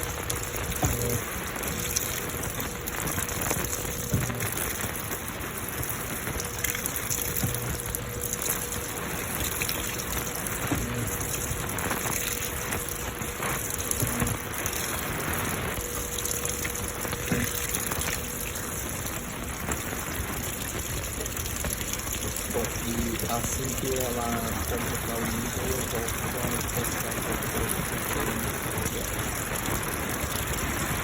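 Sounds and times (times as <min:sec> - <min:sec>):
water pouring into washing machine: 0:00.0 - 0:31.0.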